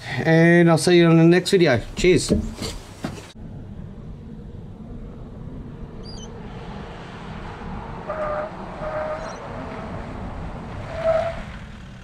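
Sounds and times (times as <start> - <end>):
vehicle engine and tyres rumbling: 1.6 - 12.0.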